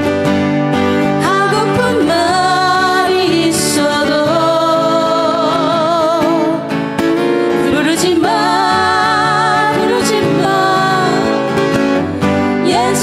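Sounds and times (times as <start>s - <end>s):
acoustic guitar ballad: 0.0s - 13.0s.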